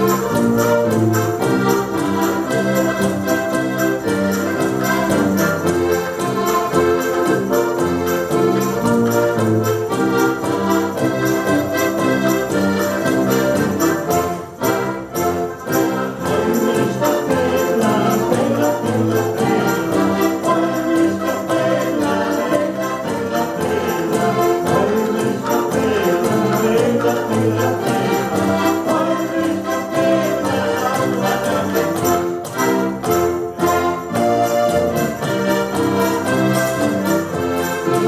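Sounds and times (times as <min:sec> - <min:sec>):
accordions playing polka: 0:00.0 - 0:38.0.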